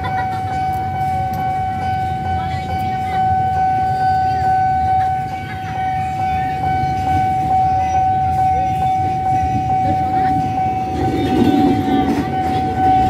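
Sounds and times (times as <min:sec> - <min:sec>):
level crossing alarm tone: 0:00.0 - 0:13.0.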